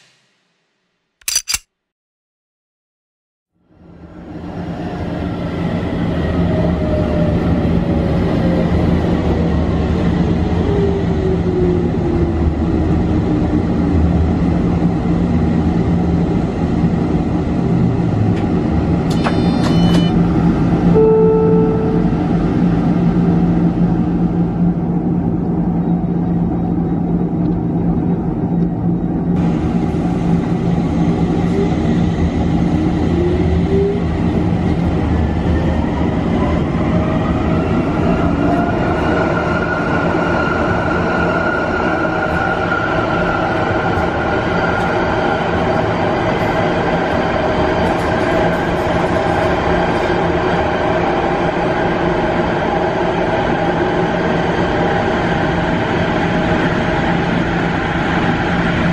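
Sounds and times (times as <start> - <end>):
tram wheels rumbling on rails: 3.8 - 58.9.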